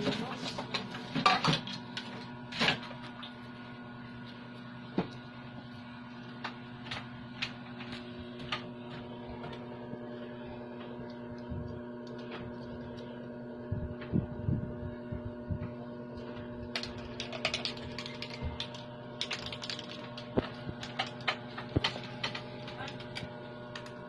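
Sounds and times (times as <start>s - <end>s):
steady tonal hum: 3.6s - 24.0s.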